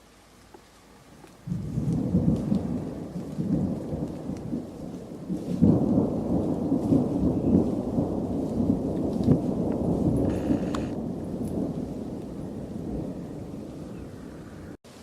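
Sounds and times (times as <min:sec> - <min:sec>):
thunder rumbling: 0:01.4 - 0:14.8.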